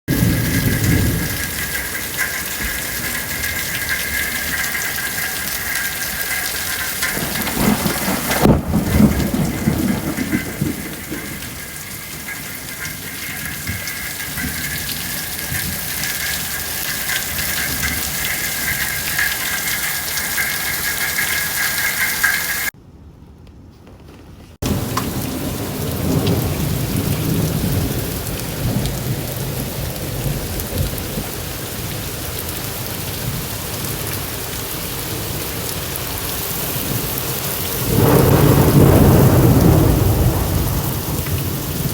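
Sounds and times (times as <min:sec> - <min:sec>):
thunder rumbling: 0:00.1 - 0:22.7, 0:24.6 - 0:41.9
heavy rain falling: 0:00.1 - 0:22.8, 0:24.6 - 0:41.9.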